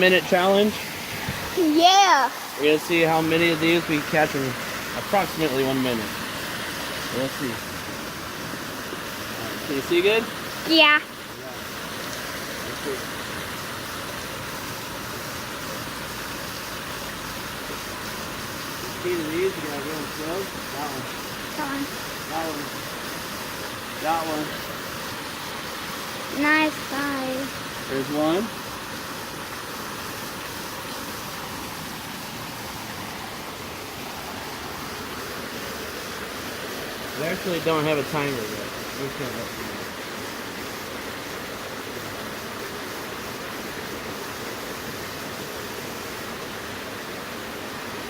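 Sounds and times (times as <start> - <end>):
creek water rushing: 0.0 - 48.0.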